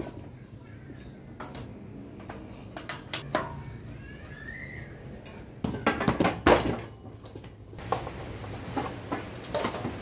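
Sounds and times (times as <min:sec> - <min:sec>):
steel bicycle parts clanking: 0:01.2 - 0:10.0.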